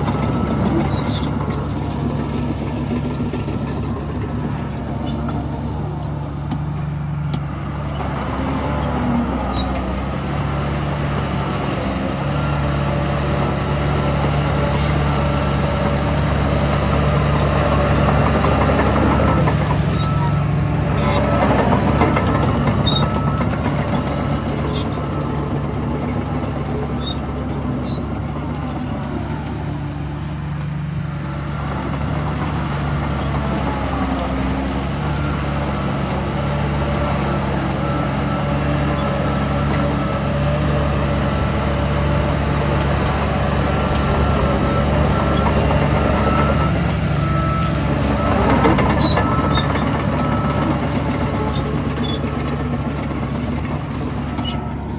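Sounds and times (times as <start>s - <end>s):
engine revving: 0.0s - 54.9s
heavy diesel engines running: 0.0s - 54.9s.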